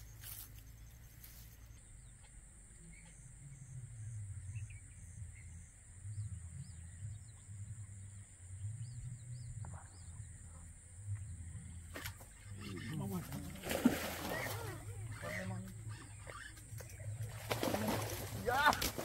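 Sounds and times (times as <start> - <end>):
faint bird chirps: 0.0 - 18.2.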